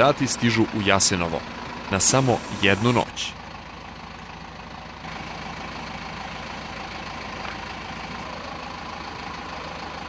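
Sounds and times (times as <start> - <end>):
bus engine idling: 0.0 - 10.0.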